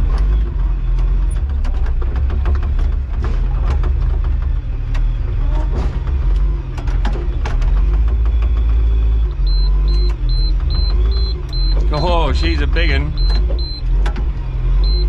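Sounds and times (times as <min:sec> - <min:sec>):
digging machine diesel engine: 0:00.0 - 0:15.0
knocks and clanks: 0:00.0 - 0:15.0.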